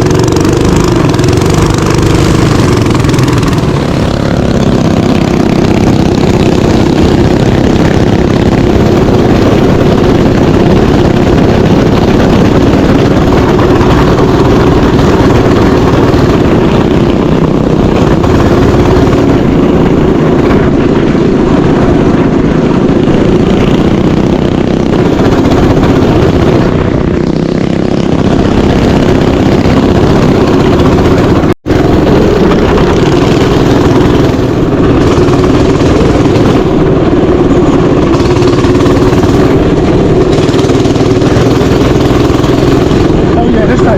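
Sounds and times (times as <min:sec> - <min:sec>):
mini bike engine running: 0:00.0 - 0:43.9.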